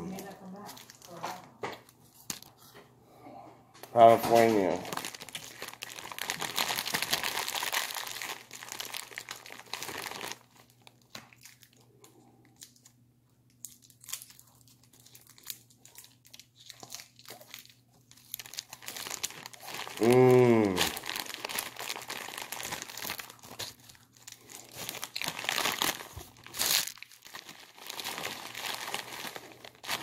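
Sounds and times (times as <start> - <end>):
packaging crinkling and crackling: 0.0 - 2.7, 4.1 - 30.0.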